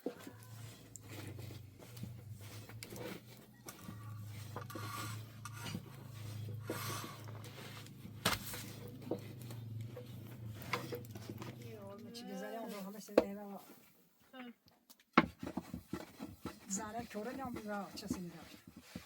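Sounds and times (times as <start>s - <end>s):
rubbing and scraping handling: 0.0s - 14.0s, 15.2s - 19.0s.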